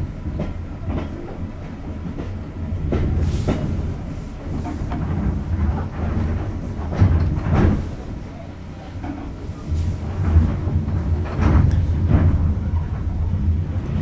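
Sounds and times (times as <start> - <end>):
train rumble: 0.0 - 14.0
wheels clacking over rail joints: 0.4 - 14.0.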